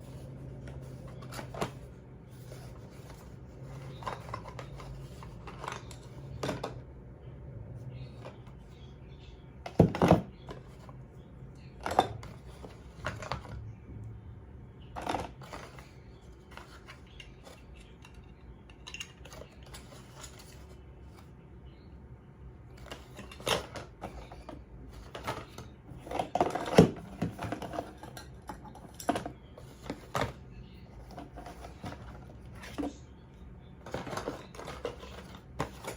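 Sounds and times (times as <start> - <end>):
faint low hum: 0.0 - 35.9.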